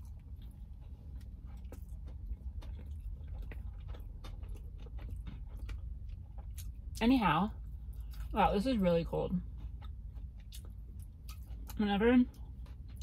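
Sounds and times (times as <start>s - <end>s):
low steady hum: 0.0s - 13.0s
wet crunchy chewing: 0.0s - 13.0s.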